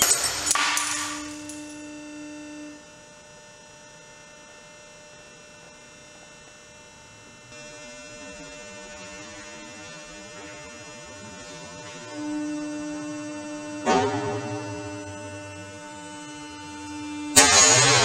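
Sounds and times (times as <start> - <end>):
steady hum of even tones: 0.0 - 18.0.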